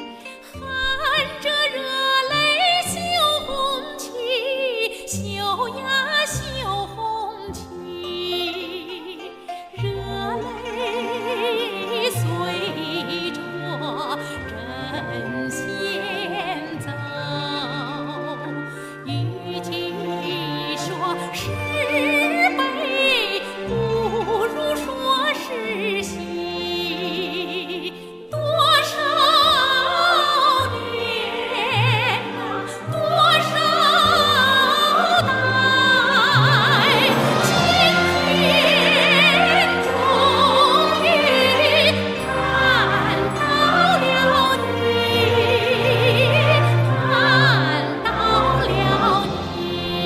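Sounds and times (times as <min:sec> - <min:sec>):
orchestral accompaniment: 0:00.0 - 0:50.0
woman singing opera: 0:00.0 - 0:50.0.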